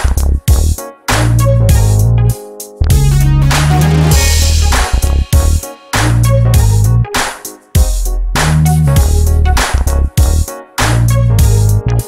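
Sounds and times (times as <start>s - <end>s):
background music with deep bass: 0.0s - 12.0s.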